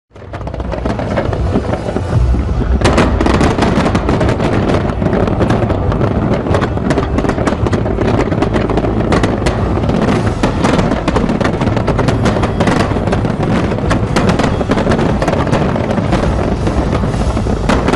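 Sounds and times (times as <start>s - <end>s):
fireworks crackling and popping: 0.1s - 17.9s
rumble of fireworks booms: 0.1s - 17.9s.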